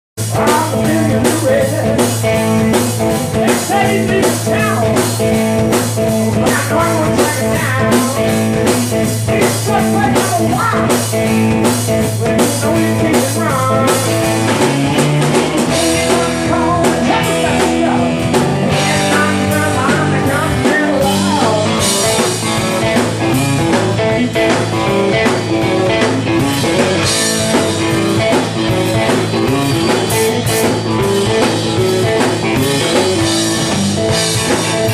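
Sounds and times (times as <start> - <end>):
bass line: 0.2 - 34.9
blues guitar with bent notes: 0.2 - 34.9
drum kit beat: 0.2 - 34.9.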